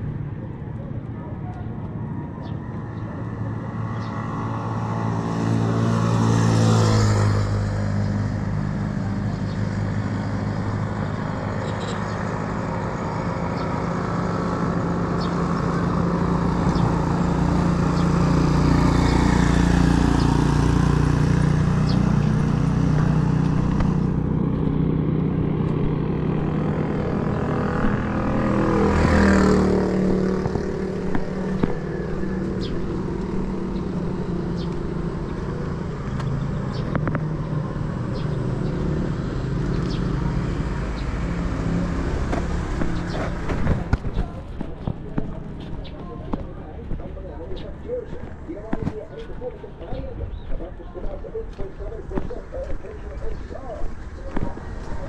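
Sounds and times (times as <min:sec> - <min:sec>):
steady engine hum: 0:00.0 - 0:55.0
vehicles passing on road: 0:00.0 - 0:55.0.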